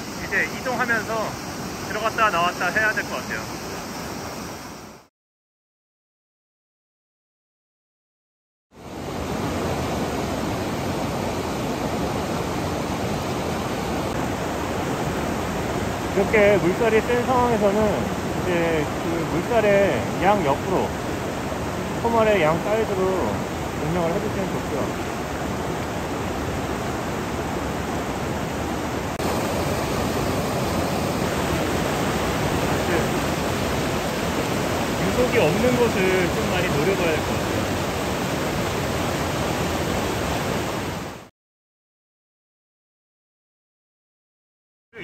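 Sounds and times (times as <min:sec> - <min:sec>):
stream rushing over rocks: 0:00.0 - 0:05.1, 0:08.8 - 0:41.3.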